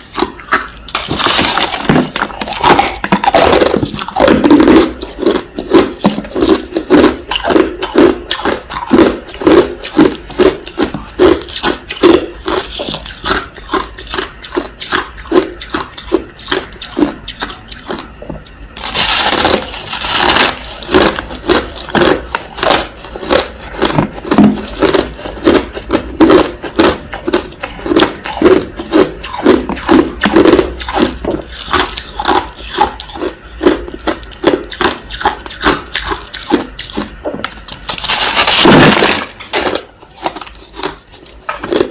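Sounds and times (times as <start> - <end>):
crushed ice being chewed: 0.0 - 41.9.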